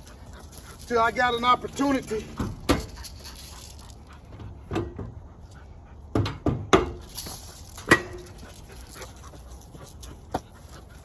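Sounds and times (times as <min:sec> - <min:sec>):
puppy panting: 0:00.0 - 0:06.2, 0:07.5 - 0:11.0.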